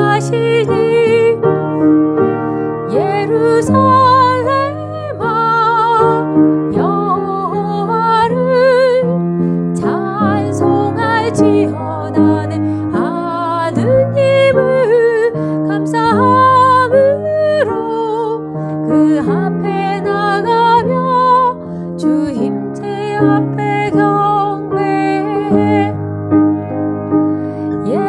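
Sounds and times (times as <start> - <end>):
woman singing with vibrato: 0.0 - 1.4, 2.9 - 9.2, 9.8 - 26.0
piano chords: 0.0 - 28.0.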